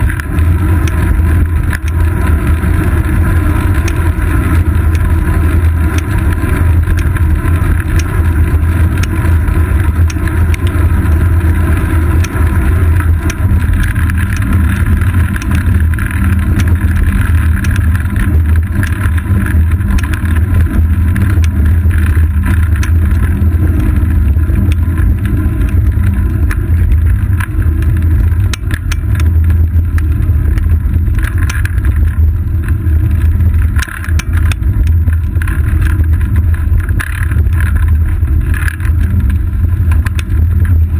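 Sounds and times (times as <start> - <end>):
bicycle rolling on asphalt: 0.0 - 40.9
clicks and knocks from road bumps: 0.0 - 40.9.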